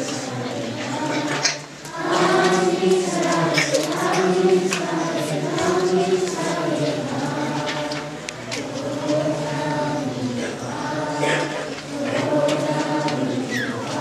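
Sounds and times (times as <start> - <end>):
choir chanting: 0.0 - 14.0.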